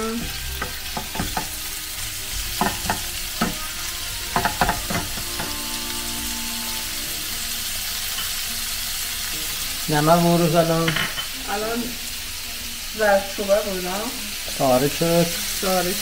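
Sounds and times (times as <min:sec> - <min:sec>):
meat and onions sizzling: 0:00.0 - 0:16.0.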